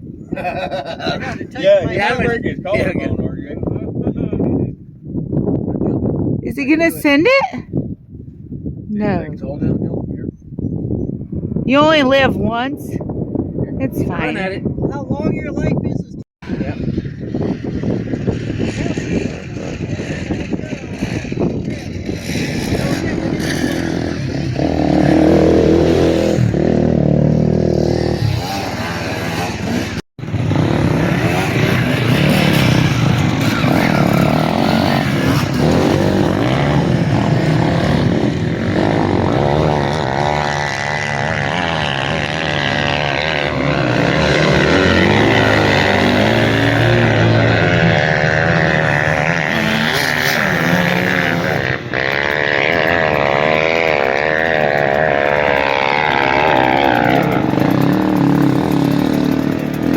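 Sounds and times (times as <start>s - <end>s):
off-road vehicle engines revving: 0.3s - 3.2s, 6.4s - 7.6s, 13.8s - 15.8s, 16.4s - 59.9s.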